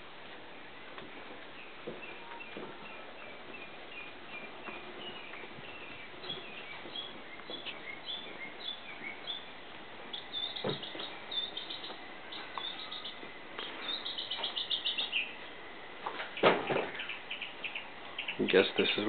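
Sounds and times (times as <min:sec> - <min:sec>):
small birds chirping: 0:00.4 - 0:19.0.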